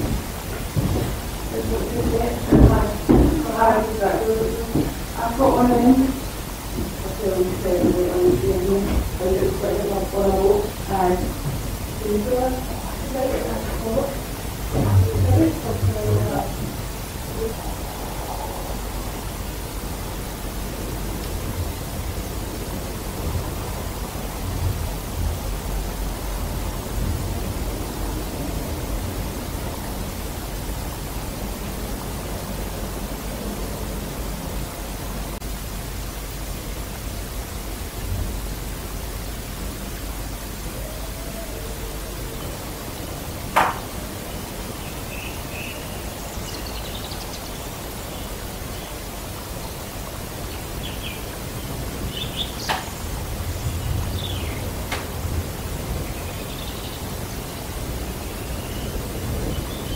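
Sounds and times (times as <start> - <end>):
low uneven rumble: 0.0 - 59.9
steady hiss: 0.0 - 59.9.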